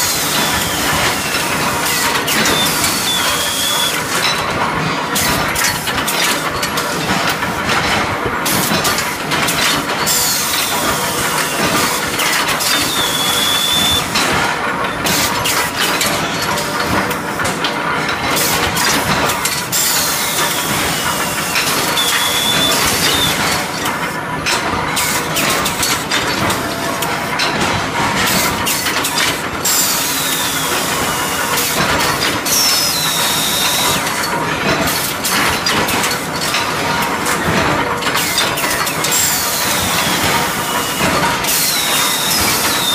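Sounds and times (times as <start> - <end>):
machine noise and hiss: 0.0 - 42.9.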